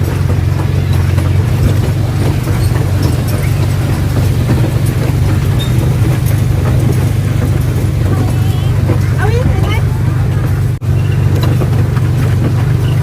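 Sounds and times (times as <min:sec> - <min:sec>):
motor running with low drone: 0:00.0 - 0:13.0
rumbling noise: 0:00.0 - 0:13.0.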